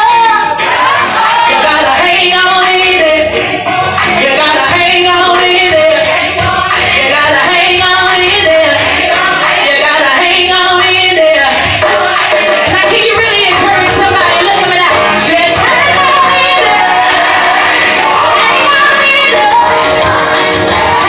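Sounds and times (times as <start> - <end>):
woman singing gospel song: 0.0 - 21.0.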